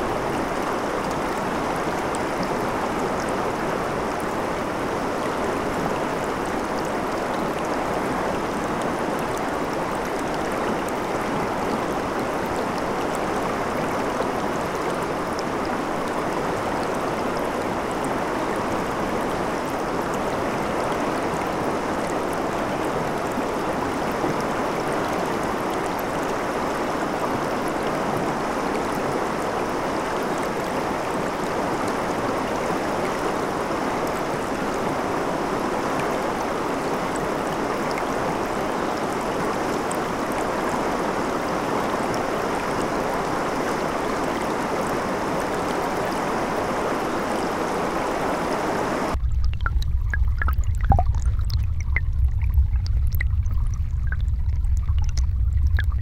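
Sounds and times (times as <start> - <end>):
river water rushing over rocks: 0.0 - 49.3.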